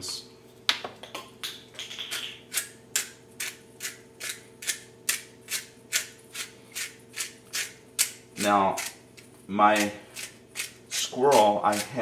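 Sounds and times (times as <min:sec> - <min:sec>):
pepper mill grinding peppercorns: 0:02.1 - 0:12.0.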